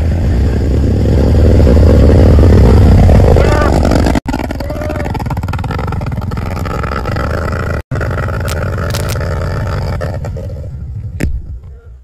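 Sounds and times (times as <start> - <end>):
dirt bike engine running hard: 0.0 - 11.6.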